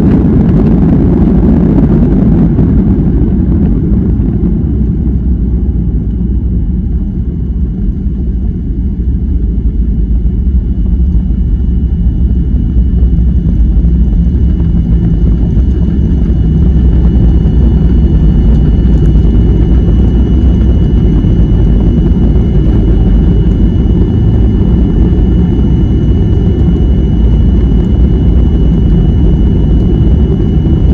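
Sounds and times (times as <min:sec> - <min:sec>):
low engine rumble in cabin: 0:00.0 - 0:30.9.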